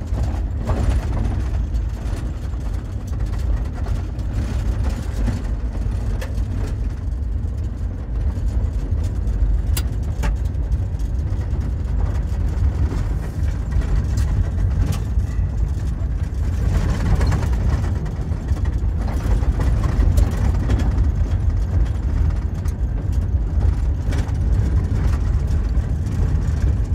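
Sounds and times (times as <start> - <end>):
engine and tyres rumbling: 0.0 - 26.9.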